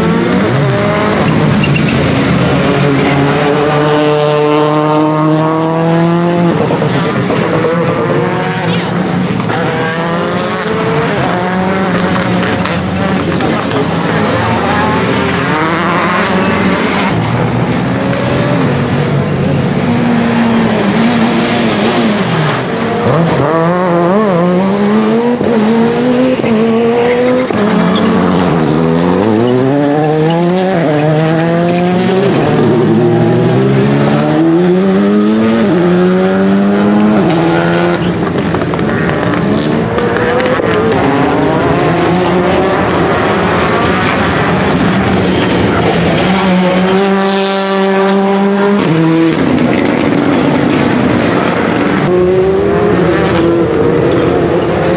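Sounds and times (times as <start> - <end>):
rally car engine accelerating: 0.0 - 54.9.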